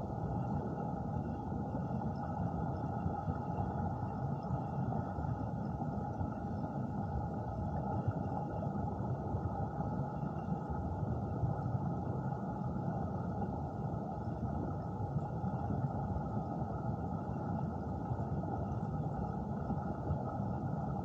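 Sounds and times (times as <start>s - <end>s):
muffled stream water underwater: 0.0s - 21.0s.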